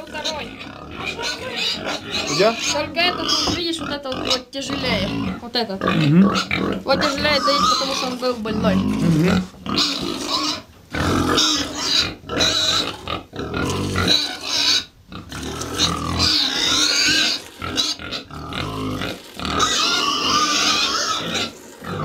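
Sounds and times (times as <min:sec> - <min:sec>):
farm animals grunting and squealing: 0:00.0 - 0:22.0.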